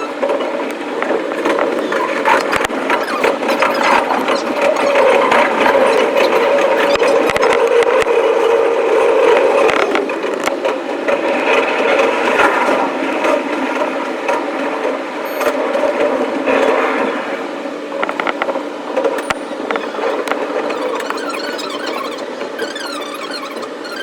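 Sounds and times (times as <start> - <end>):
train rattling with sharp clicks: 0.0 - 24.0.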